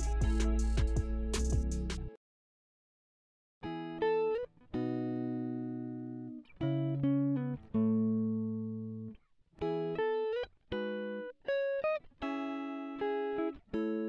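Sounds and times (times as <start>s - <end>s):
plucked guitar chords: 0.0s - 2.1s, 3.6s - 14.0s.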